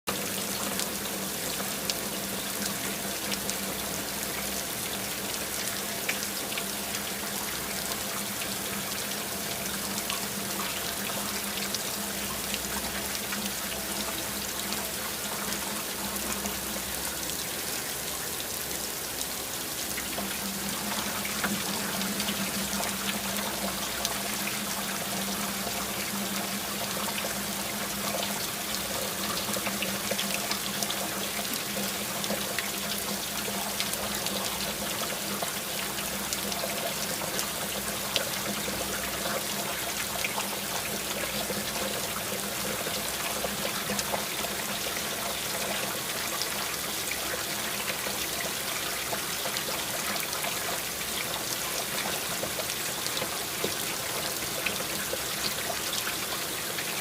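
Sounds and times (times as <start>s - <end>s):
steady rain falling: 0.1s - 57.0s.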